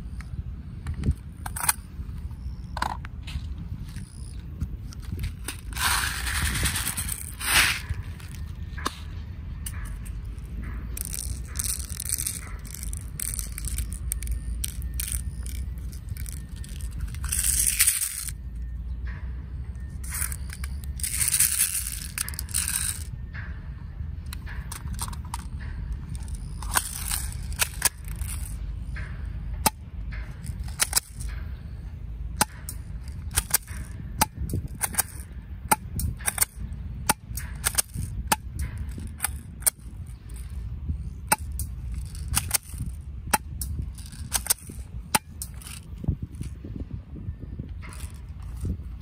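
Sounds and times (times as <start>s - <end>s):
wind rumble on microphone: 0.0s - 49.0s
magazine loading rattle: 0.8s - 3.1s, 3.8s - 18.4s, 20.0s - 23.1s, 24.2s - 46.6s, 47.8s - 49.0s.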